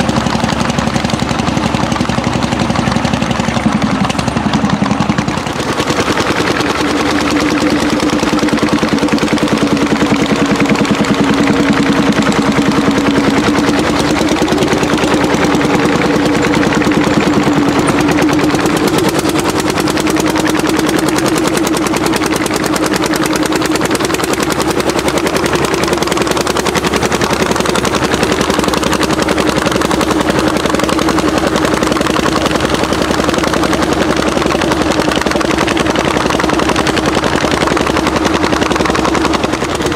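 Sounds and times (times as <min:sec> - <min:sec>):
tractor engine exhaust beats: 0:00.0 - 0:39.9.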